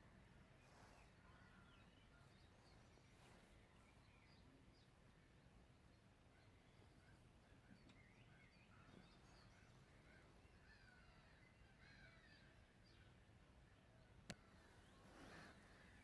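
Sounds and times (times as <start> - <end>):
small birds chirping and warbling: 0.1 - 16.0.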